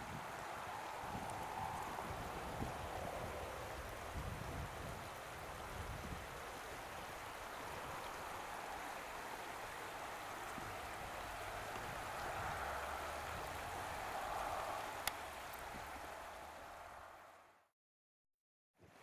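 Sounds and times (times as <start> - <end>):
stream rushing over rocks: 0.0 - 17.5.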